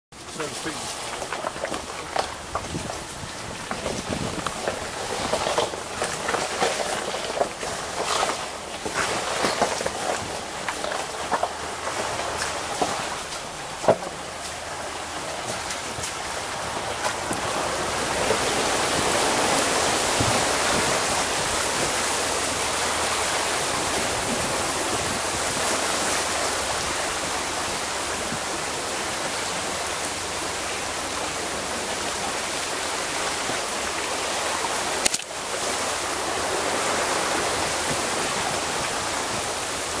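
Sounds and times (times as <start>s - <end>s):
muddy water churning: 0.1s - 40.0s.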